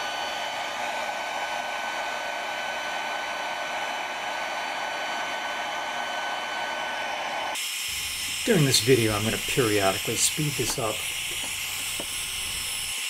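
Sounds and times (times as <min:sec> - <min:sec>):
faint high whine: 0:00.0 - 0:13.0
heat gun fan blowing hiss: 0:00.0 - 0:13.0.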